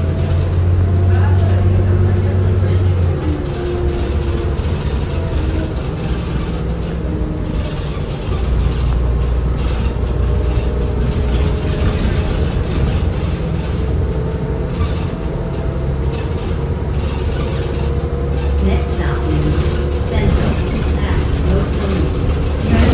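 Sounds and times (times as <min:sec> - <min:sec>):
bus engine low rumble: 0:00.0 - 0:22.9.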